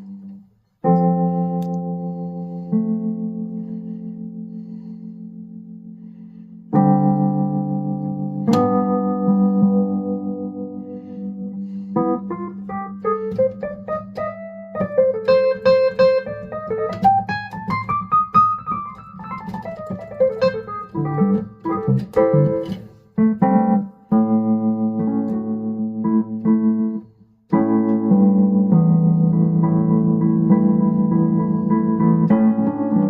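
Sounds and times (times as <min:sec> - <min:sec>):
electric keyboard playing: 0:05.5 - 0:33.0.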